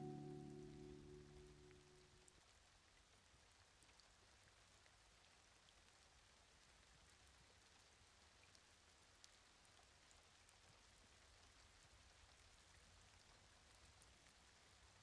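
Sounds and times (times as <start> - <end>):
faint rain hiss: 0.0 - 15.0
soft raindrop ticks: 0.0 - 15.0.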